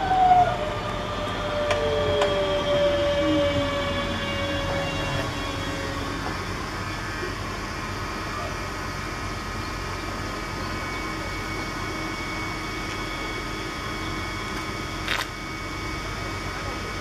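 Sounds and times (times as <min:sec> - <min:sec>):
train equipment humming and whining: 0:00.0 - 0:17.0.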